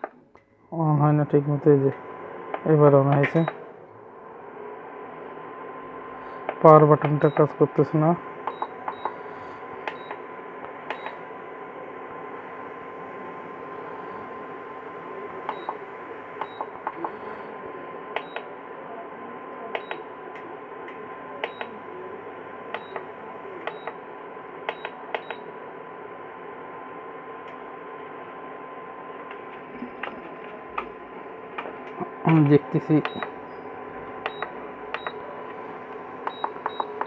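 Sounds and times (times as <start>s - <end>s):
faint steady whine: 0.0s - 37.0s.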